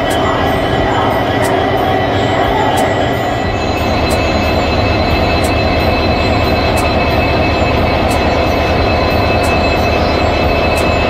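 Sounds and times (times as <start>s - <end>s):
locomotive diesel engine rumbling: 0.0s - 11.0s
thin steady whine: 0.0s - 11.0s.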